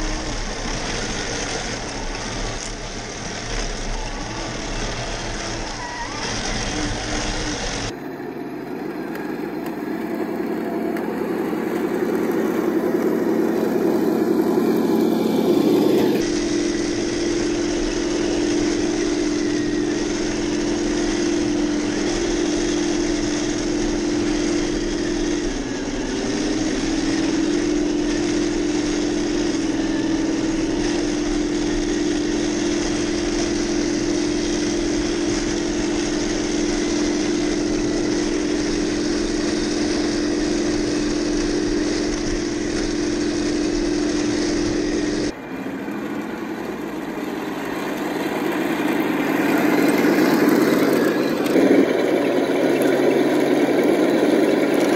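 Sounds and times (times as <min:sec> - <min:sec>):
toy tank mechanical hum: 0:00.0 - 0:54.9.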